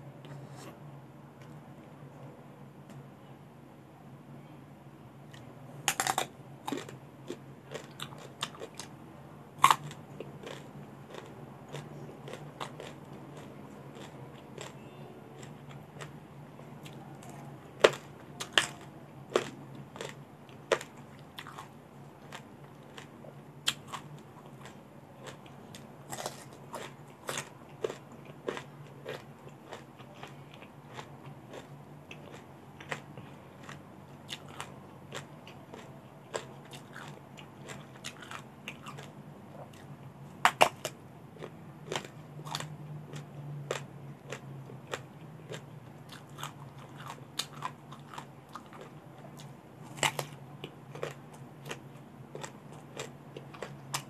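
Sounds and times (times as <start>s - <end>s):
person crunching raw vegetables: 5.3s - 8.9s, 9.6s - 16.2s, 16.8s - 54.0s.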